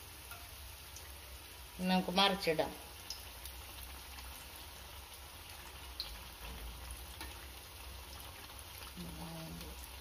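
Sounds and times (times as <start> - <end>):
batter sizzling and bubbling in oil: 0.0 - 10.0.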